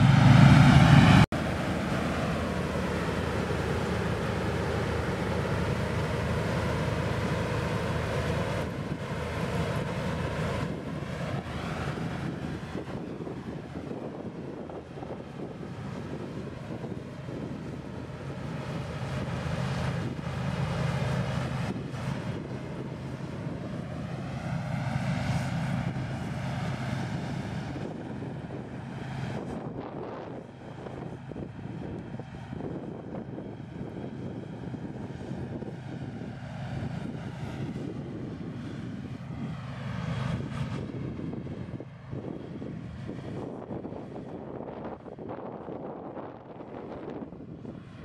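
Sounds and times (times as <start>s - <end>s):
combine harvester droning: 0.0s - 48.0s.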